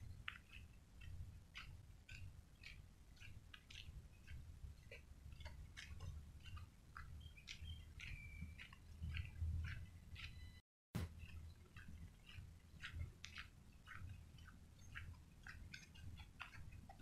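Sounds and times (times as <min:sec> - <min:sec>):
birds chirping: 0:00.0 - 0:10.6, 0:11.2 - 0:17.0
low steady rumble: 0:00.0 - 0:17.0.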